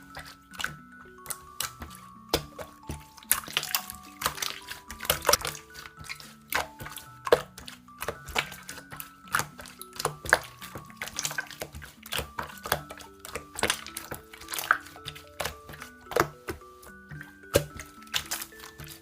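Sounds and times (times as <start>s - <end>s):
slime clicking and popping: 0.0s - 19.0s
soft background music: 0.0s - 19.0s.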